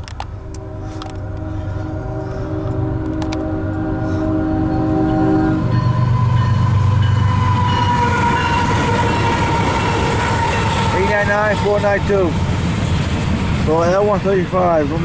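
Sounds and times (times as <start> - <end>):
locomotive rumble: 0.0 - 15.0
locomotive horn chord: 0.3 - 12.4.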